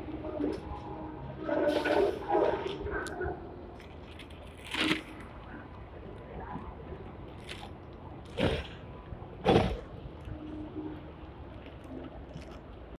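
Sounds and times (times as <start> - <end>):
tram running rumble: 0.0 - 12.9.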